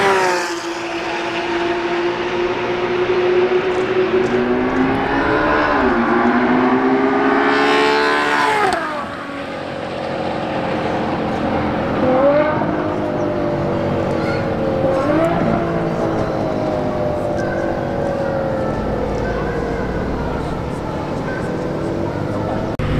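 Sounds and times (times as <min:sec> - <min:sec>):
sports car engine revving: 0:00.0 - 0:22.9.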